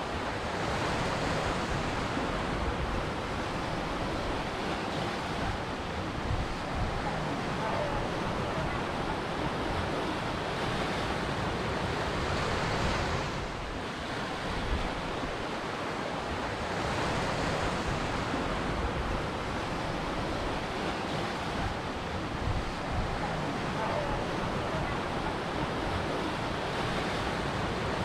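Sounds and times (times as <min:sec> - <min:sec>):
ocean surf washing in: 0:00.0 - 0:28.0.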